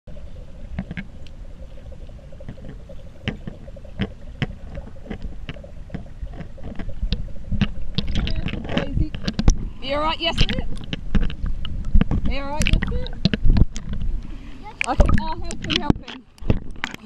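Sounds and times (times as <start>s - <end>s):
faint steady hum: 0.1s - 17.0s
muffled underwater rumble: 0.1s - 17.0s
sharp underwater clicks and knocks: 0.7s - 17.0s.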